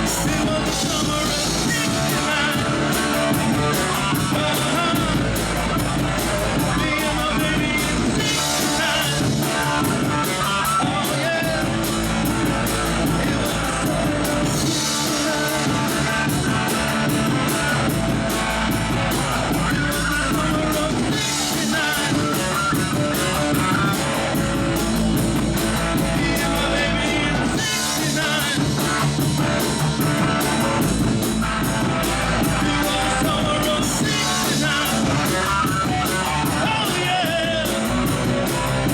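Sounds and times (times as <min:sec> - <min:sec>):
person singing: 0:00.0 - 0:30.9, 0:31.8 - 0:38.9
bass line: 0:00.0 - 0:38.9
drum kit: 0:00.0 - 0:38.9
electric guitar: 0:00.0 - 0:38.9.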